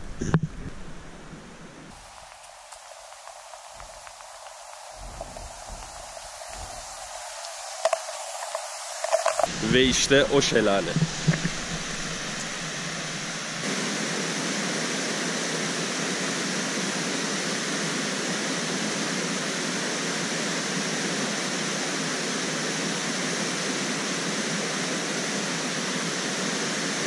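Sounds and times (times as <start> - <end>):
waterfall roaring: 1.9 - 27.0.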